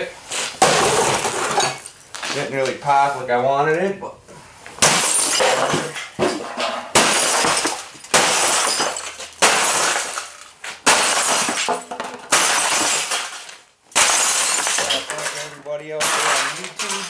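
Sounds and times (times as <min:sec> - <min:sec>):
glass and plastic shattering: 0:00.6 - 0:02.2, 0:04.8 - 0:17.0.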